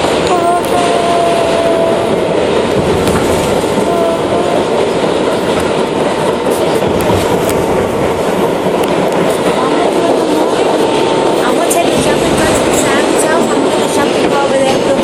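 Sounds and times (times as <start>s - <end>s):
subway train rumble and clatter: 0.0s - 15.0s.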